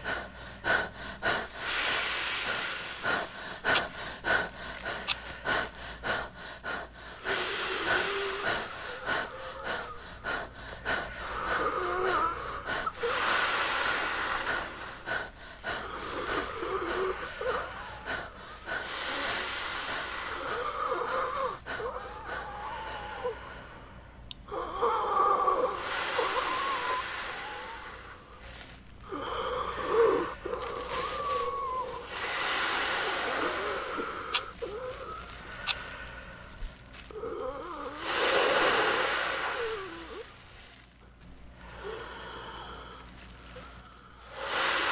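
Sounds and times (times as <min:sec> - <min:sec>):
man breathing hard and wheezing: 0:00.0 - 0:44.9.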